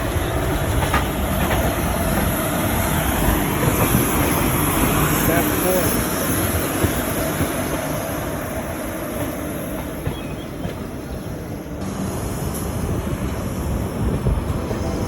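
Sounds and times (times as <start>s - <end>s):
passenger train running: 0.0s - 15.0s.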